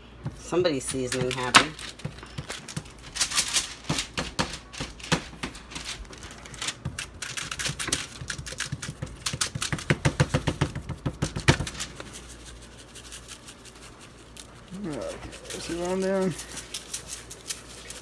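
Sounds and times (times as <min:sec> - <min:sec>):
seasoning shaker shaken and tapped: 0:00.2 - 0:18.0.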